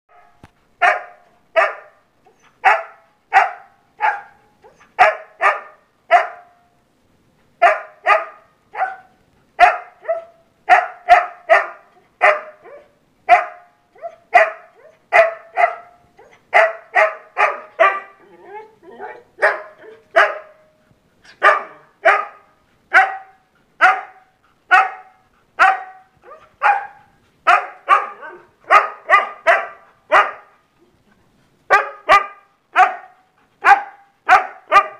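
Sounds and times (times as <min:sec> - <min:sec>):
dog barking: 0:00.2 - 0:02.0, 0:02.6 - 0:06.6, 0:07.6 - 0:18.2, 0:19.0 - 0:20.6, 0:21.4 - 0:30.6, 0:31.7 - 0:34.9.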